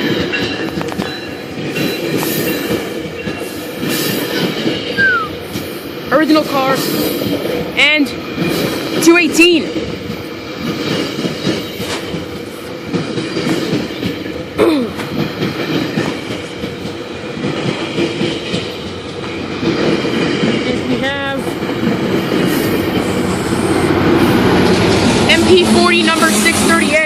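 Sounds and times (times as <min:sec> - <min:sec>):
diesel locomotive: 0:00.0 - 0:27.0
train rumbling past: 0:00.0 - 0:27.0
wheels clacking over rail joints: 0:00.0 - 0:27.0.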